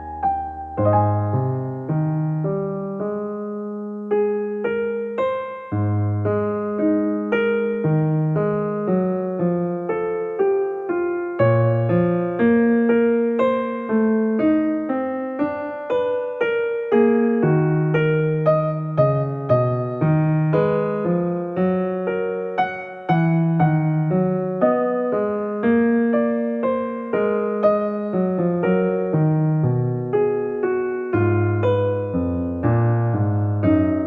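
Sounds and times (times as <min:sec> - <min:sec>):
gentle piano melody: 0:00.0 - 0:34.0.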